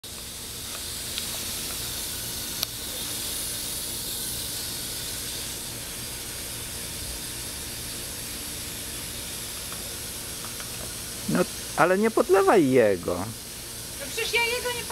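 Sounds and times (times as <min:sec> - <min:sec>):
hose nozzle spraying water: 0:00.0 - 0:14.9.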